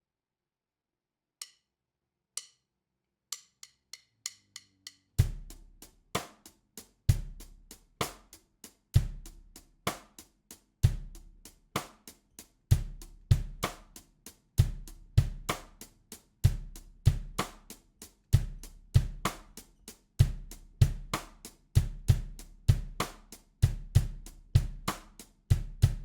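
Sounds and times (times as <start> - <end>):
drum kit groove: 5.2 - 26.0.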